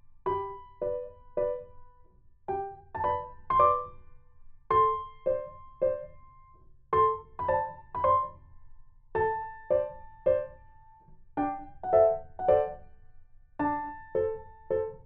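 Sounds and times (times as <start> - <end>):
light piano music: 0.0 - 15.0.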